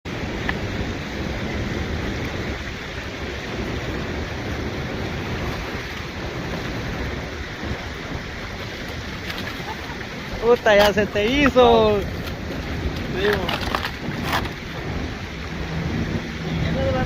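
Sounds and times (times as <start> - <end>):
low rumble: 0.1 - 17.0
river water rushing: 0.1 - 17.0.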